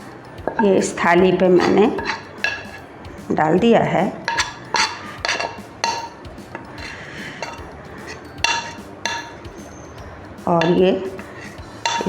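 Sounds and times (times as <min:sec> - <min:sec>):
metal spoon clinking on steel: 0:00.5 - 0:02.8, 0:04.2 - 0:12.0.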